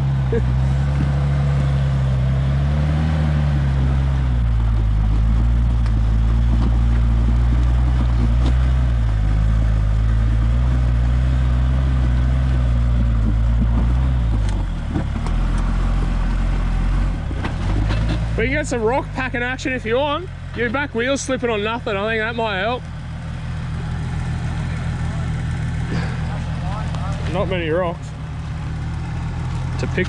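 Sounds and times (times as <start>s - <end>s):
truck engine at low revs: 0.0s - 30.0s.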